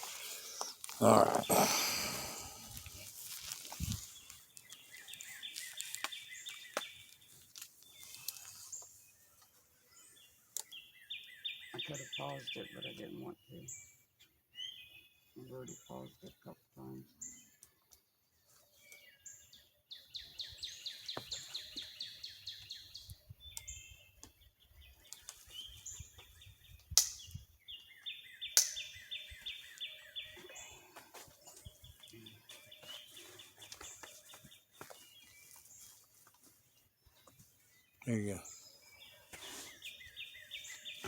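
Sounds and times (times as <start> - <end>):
songbirds trilling: 0.0 - 41.0.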